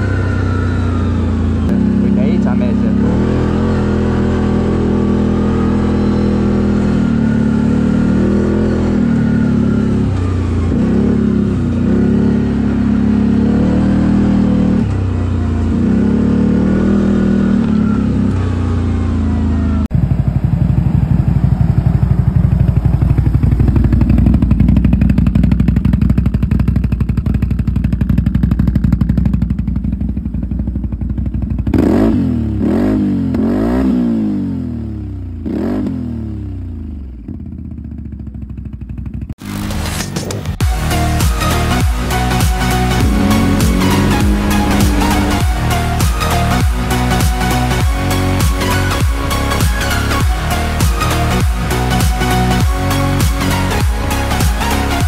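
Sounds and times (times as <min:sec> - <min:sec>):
atv engine revving: 0:00.0 - 0:40.1, 0:40.7 - 0:55.0.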